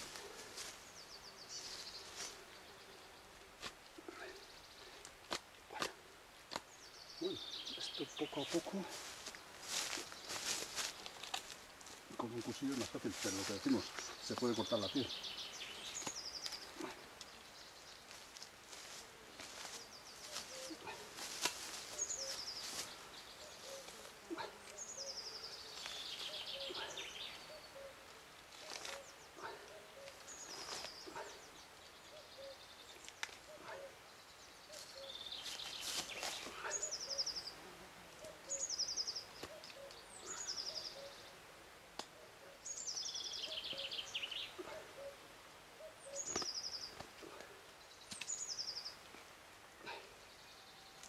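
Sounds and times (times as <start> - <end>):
songbird singing: 0.0 - 51.0.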